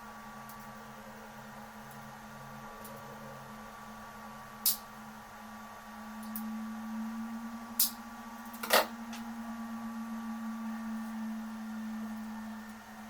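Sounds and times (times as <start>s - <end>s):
stepper motors humming and whining: 0.0s - 13.0s.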